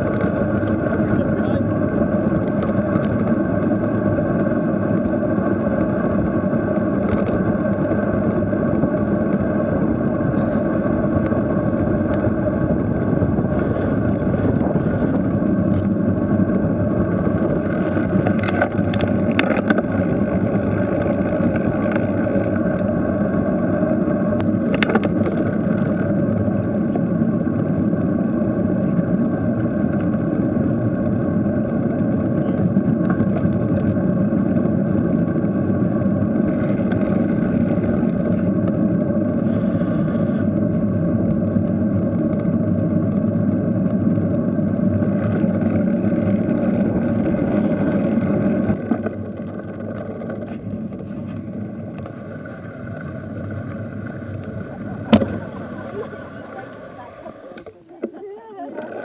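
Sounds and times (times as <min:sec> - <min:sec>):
tyres rumbling on tarmac: 0:00.0 - 0:59.0.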